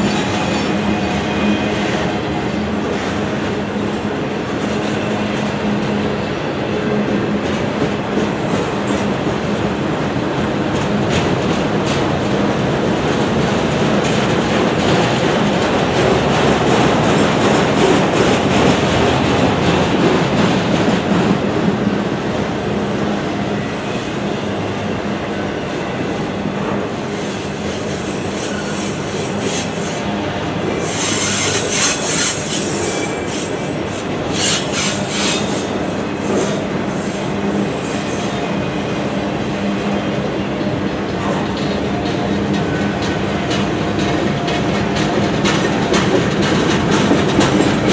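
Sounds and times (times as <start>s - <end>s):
steel wheels rumbling on rails: 0.0s - 47.9s.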